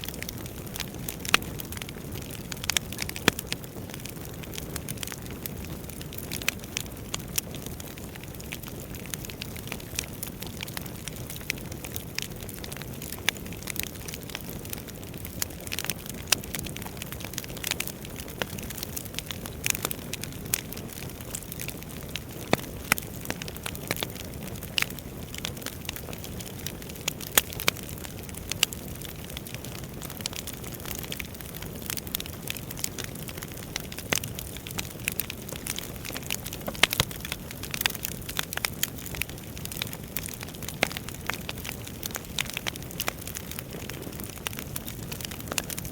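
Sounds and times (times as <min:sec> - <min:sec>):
logs crackling and snapping: 0:00.0 - 0:45.9
low rumble of flames: 0:00.0 - 0:45.9.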